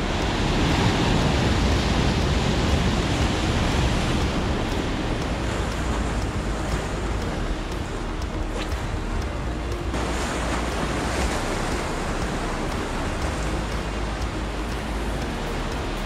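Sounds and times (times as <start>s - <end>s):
surf breaking over rocks: 0.0s - 16.0s.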